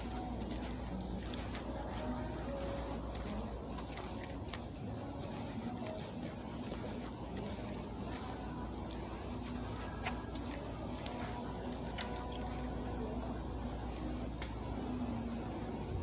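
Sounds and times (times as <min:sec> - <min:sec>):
faint clicks and rustles: 0:00.0 - 0:15.5
steady background hum: 0:00.0 - 0:16.0.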